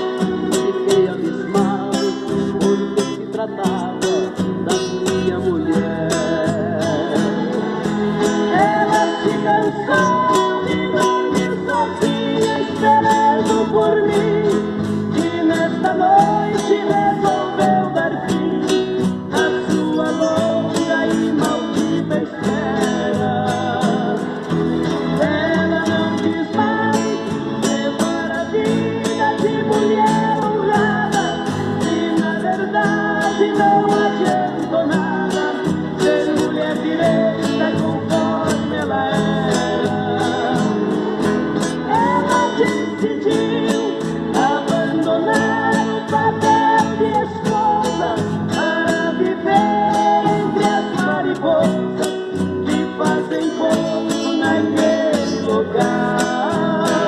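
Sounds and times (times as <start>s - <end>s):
guitar melody with bending notes: 0.0s - 57.0s.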